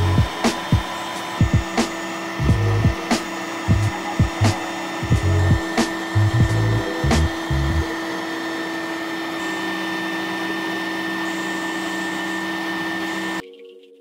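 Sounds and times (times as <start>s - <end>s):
router spindle high whine: 0.0s - 13.4s.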